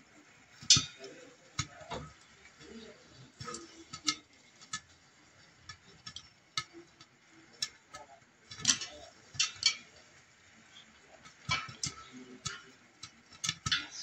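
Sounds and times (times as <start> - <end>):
popcorn popping in a covered pot: 0.0 - 14.0.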